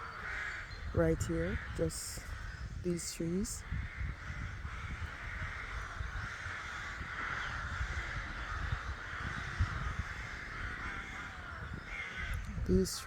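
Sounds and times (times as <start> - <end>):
ravens cawing: 0.0 - 13.0.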